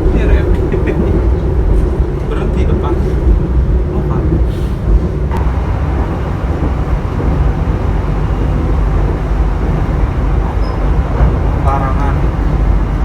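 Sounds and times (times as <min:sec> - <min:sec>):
train rumbling from inside coach: 0:00.0 - 0:13.0.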